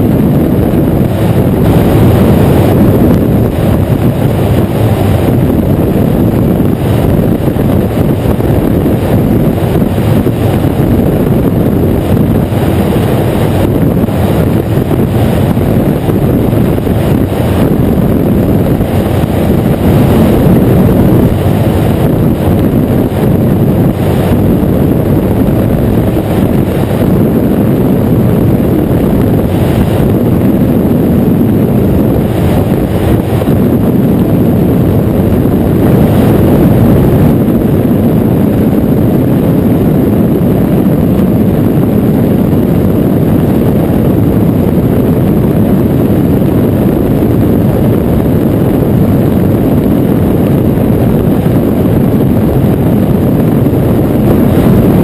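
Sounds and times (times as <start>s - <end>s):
engine and propeller drone: 0.0s - 55.0s
wind rushing: 0.0s - 55.0s.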